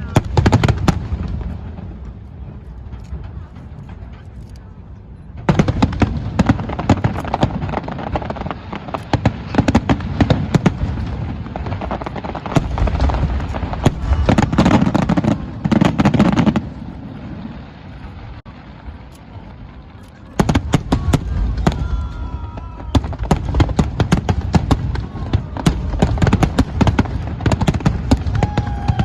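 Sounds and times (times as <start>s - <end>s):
fireworks cracks and booms: 0.0s - 29.0s.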